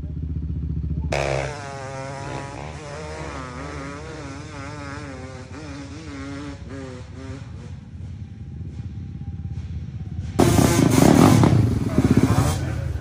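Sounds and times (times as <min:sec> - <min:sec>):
dirt bike engine revving: 0:00.0 - 0:08.8, 0:10.3 - 0:13.0.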